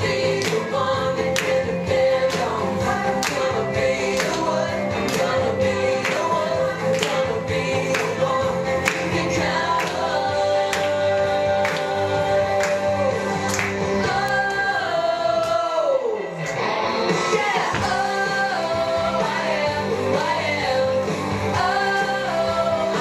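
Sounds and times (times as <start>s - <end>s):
people singing: 0.0s - 23.0s.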